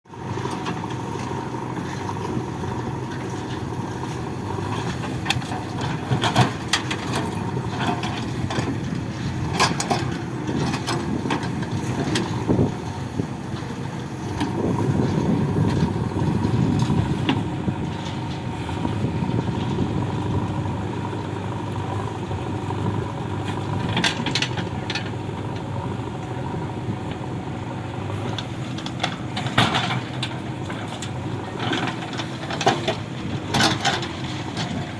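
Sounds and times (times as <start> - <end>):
diesel machinery engine running: 0.0 - 34.9.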